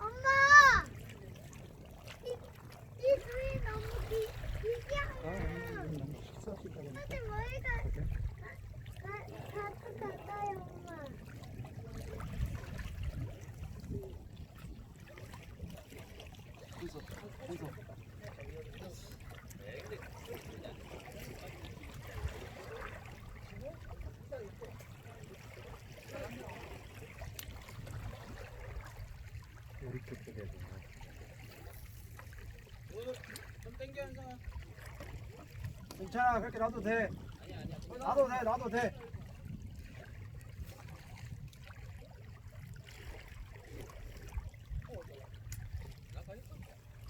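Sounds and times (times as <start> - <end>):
wind rumbling on microphone: 3.0 - 19.6, 20.5 - 32.9, 33.5 - 47.0.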